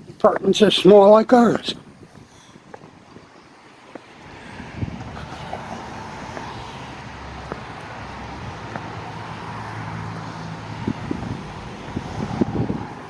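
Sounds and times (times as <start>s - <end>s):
outdoor traffic noise: 0.0s - 13.0s
car passing: 2.3s - 13.0s.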